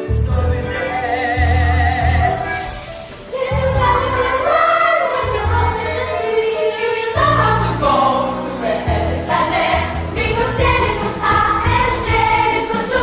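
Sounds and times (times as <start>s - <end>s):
instrumental accompaniment with bass: 0.0s - 4.6s, 7.2s - 13.0s
group singing: 0.0s - 13.0s.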